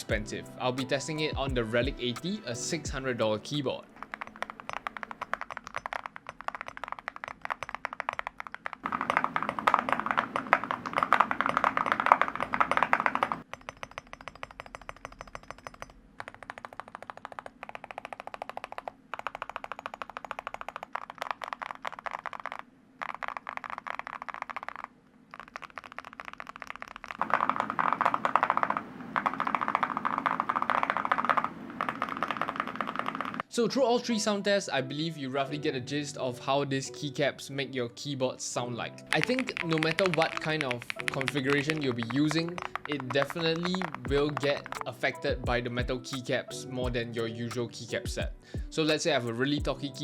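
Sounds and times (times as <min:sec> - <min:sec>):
mechanical keyboard typing: 0:00.8 - 0:33.5, 0:39.1 - 0:50.0.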